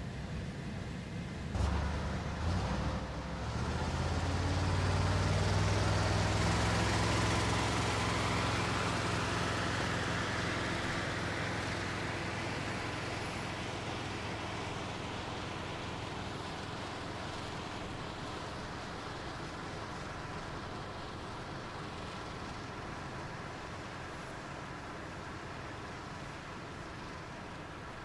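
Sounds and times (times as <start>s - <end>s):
tug engine droning: 1.5s - 28.0s.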